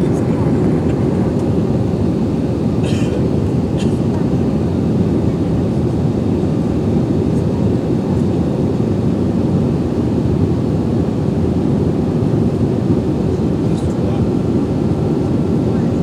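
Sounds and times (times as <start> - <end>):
airflow over fuselage: 0.0 - 16.0
jet engines droning: 0.0 - 16.0.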